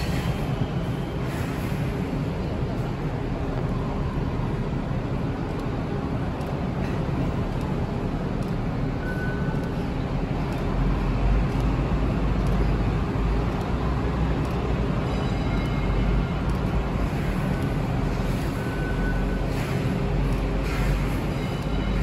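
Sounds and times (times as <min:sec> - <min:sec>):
light rail train rumbling: 0:00.0 - 0:22.0.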